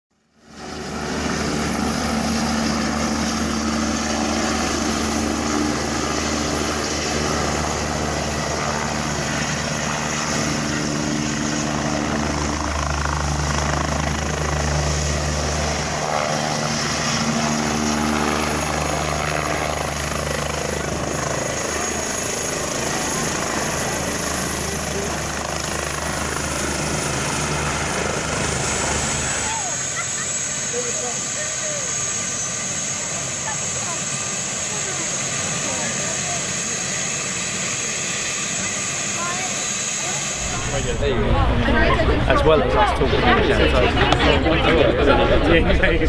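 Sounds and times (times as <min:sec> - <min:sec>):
helicopter rotor and turbine: 0:00.2 - 0:46.0.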